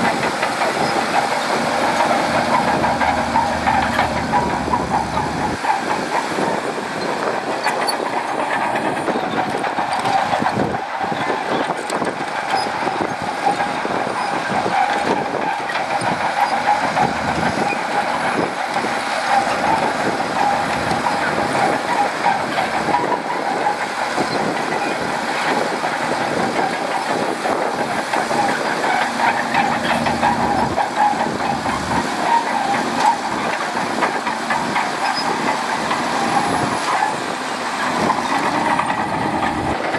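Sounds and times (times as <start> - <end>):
bulldozer diesel engine under load: 0.0 - 39.9
steel tracks clattering and squealing: 0.0 - 39.9.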